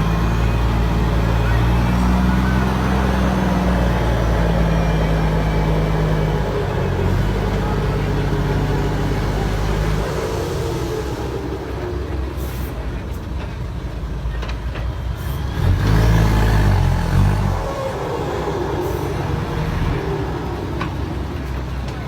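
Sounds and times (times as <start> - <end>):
diesel truck engines droning: 0.0 - 22.0.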